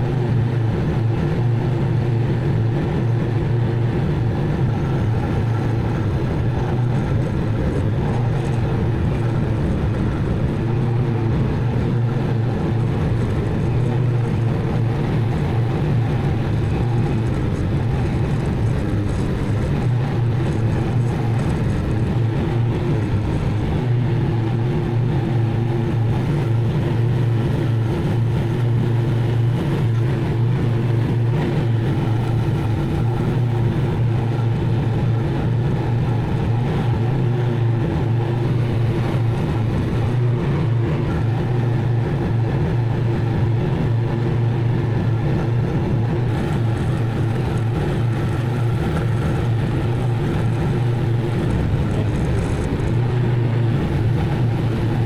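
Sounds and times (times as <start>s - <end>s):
mower engine running: 0.0s - 55.0s.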